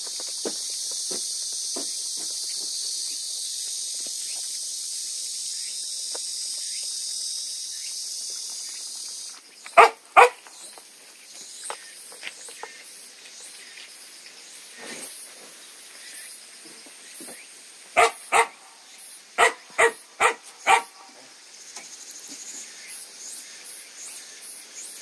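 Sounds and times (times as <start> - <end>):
steady high hiss: 0.0 - 25.0.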